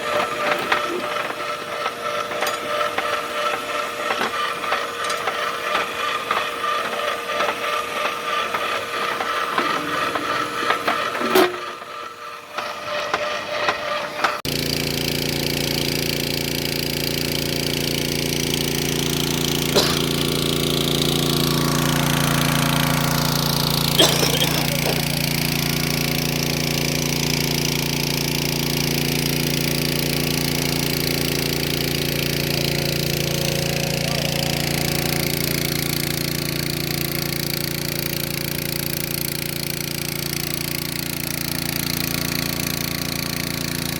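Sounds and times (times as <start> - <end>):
drilling rig running: 0.0 - 43.9.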